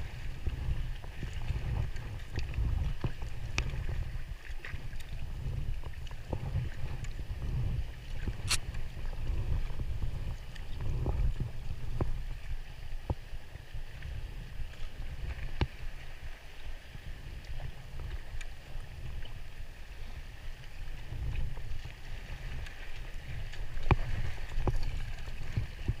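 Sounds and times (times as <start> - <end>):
kayak paddle splashes: 0.0 - 26.0
wind rumble on microphone: 0.0 - 26.0.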